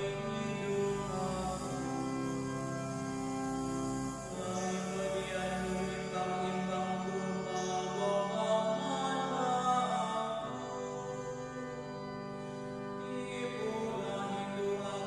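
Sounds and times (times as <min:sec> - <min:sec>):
person chanting a psalm: 0:00.0 - 0:12.2, 0:12.8 - 0:15.0.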